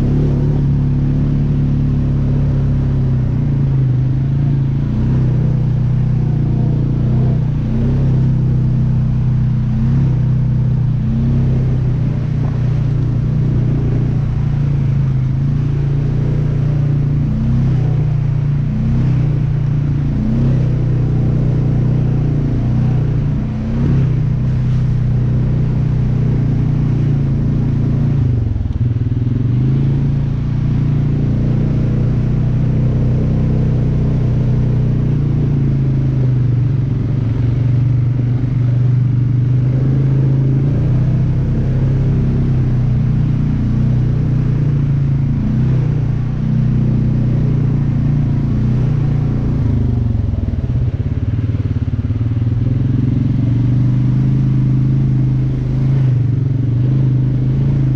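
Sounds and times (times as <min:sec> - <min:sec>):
off-road vehicle engine running: 0:00.0 - 0:57.9.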